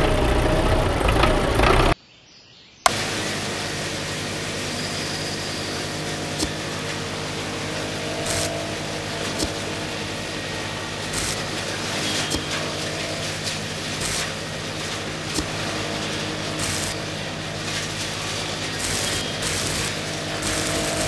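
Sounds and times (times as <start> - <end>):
small motor humming: 2.9 - 21.0.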